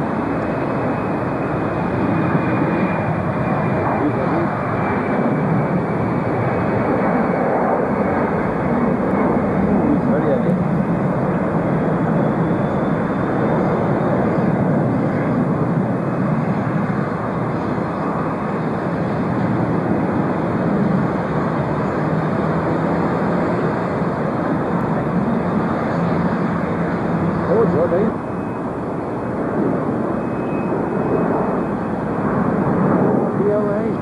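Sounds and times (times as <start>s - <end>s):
jet engines at take-off: 0.0s - 34.0s.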